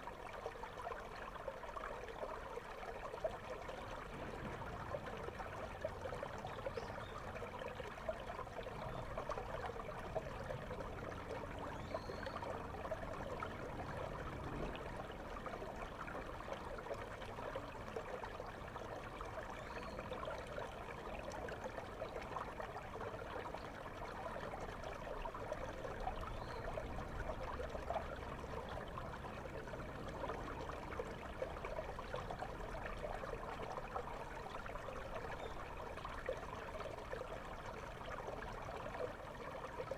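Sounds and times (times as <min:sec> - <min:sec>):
river water rushing underwater: 0:00.0 - 0:39.9.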